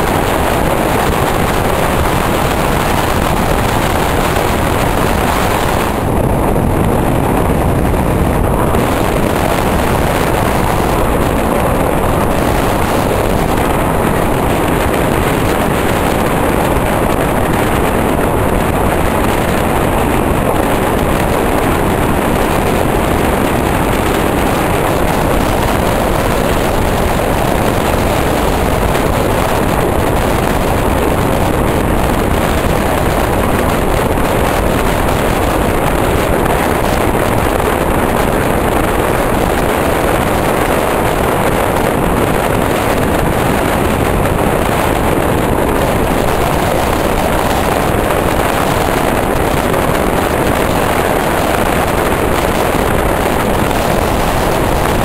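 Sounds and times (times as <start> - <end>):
wheel-on-rail noise: 0.0 - 55.0
wind rushing: 0.0 - 55.0.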